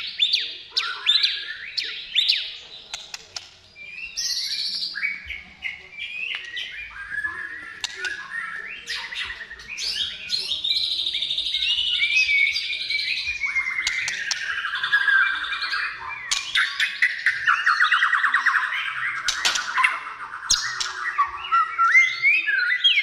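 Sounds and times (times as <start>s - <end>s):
songbird whistles and trills: 0.0s - 23.0s.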